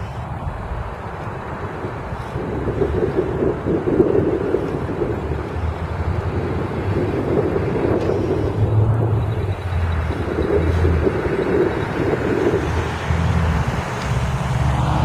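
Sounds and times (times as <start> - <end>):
bus engine driving past: 0.0 - 15.0
road noise: 0.0 - 15.0
wind buffeting microphone: 0.0 - 15.0.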